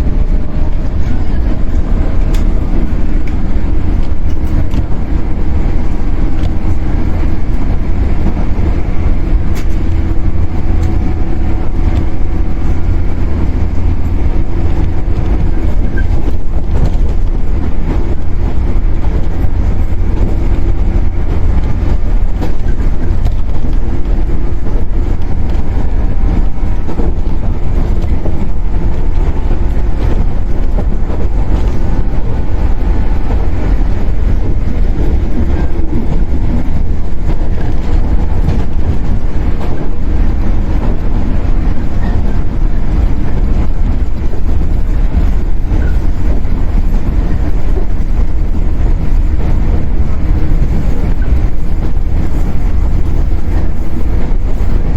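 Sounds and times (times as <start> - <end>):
train wheels rumbling on track: 0.0 - 54.9.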